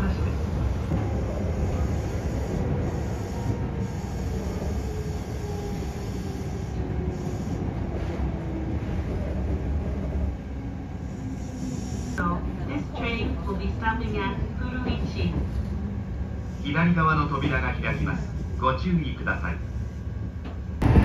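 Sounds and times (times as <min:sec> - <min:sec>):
train wheels rumbling on rails: 0:00.0 - 0:16.6, 0:19.8 - 0:21.0.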